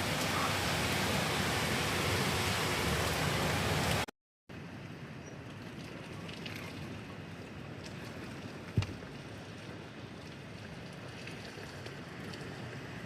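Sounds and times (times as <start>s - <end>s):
rain and wind rushing: 0.0s - 13.0s.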